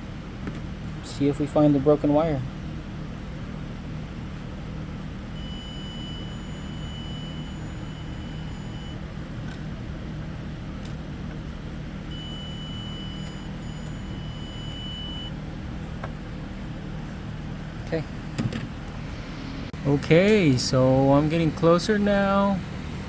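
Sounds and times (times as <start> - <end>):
low hum: 2.4 - 23.0.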